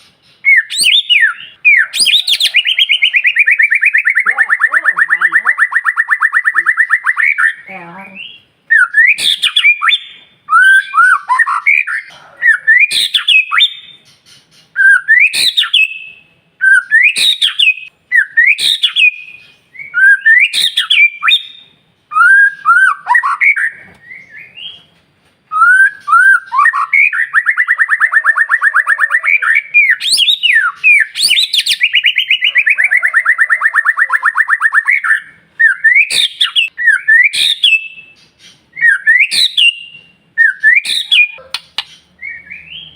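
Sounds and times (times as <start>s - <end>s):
bird singing whistled phrases: 0.4s - 14.0s, 14.8s - 24.8s, 25.5s - 42.9s.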